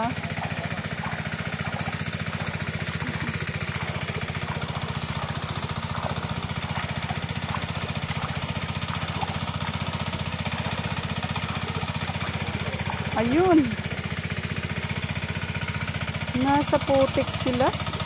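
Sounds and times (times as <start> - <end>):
small engine running steadily: 0.0 - 18.0.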